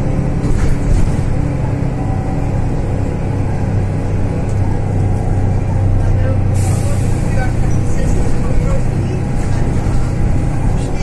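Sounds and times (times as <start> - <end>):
bus engine drone: 0.0 - 11.0
road rumble: 0.0 - 11.0.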